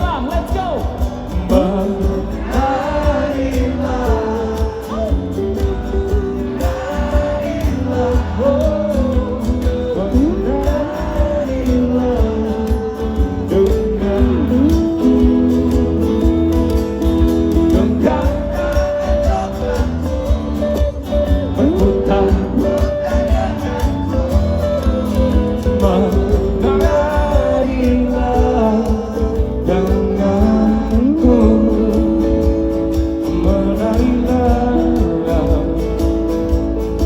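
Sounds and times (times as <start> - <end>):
guitar: 0.0 - 37.0
person singing: 0.0 - 37.0.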